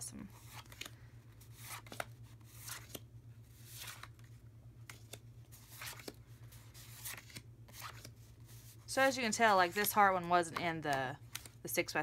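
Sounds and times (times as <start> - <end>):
paper cards rustling: 0.4 - 11.6.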